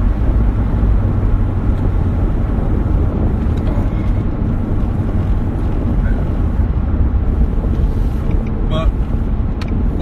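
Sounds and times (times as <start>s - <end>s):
loud steady low rumble: 0.0s - 10.0s.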